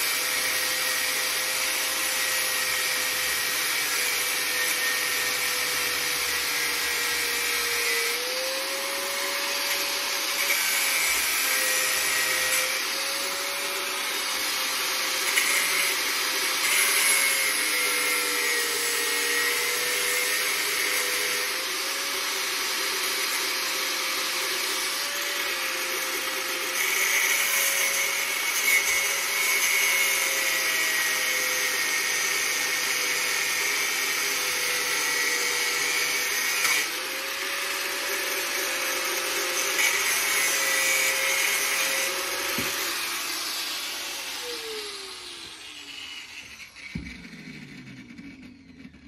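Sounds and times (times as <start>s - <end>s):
power tool motor running: 0.0s - 49.0s.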